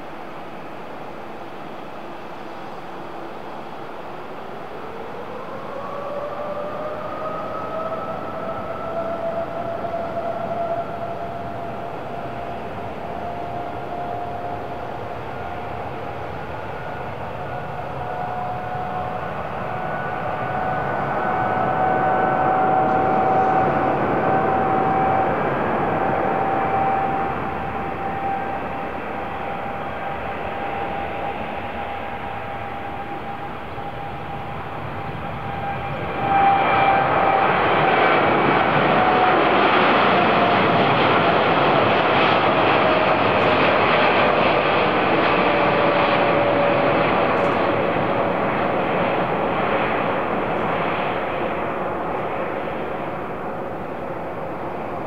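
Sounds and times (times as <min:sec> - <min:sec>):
jet engines whining and roaring: 0:00.0 - 0:55.0.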